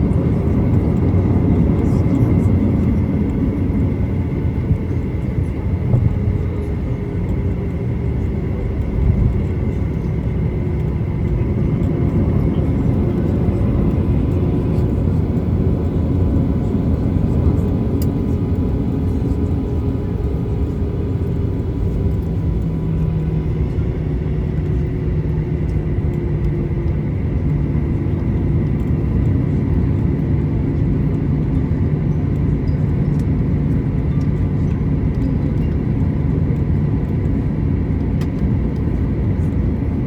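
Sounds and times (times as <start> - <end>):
jet engines at low power: 0.0 - 40.0.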